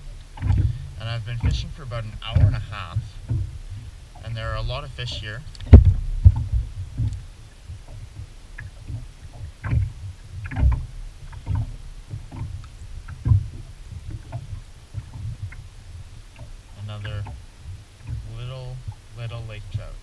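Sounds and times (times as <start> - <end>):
steady low rumble: 0.0 - 20.0
waves slapping boat hull: 0.0 - 20.0.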